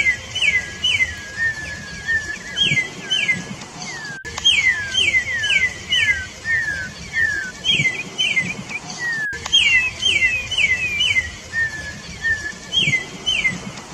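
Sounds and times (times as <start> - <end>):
bird singing whistled notes: 0.0 - 13.8.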